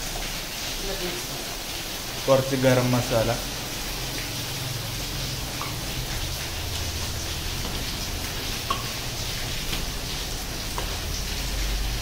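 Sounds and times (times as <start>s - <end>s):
food sizzling in oil: 0.0s - 12.0s
oil popping: 1.6s - 12.0s.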